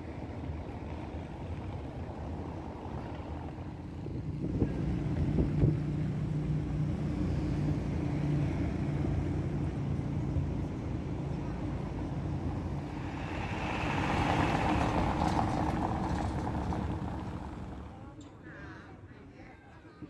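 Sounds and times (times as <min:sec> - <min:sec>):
vehicle engine humming: 0:00.0 - 0:18.2.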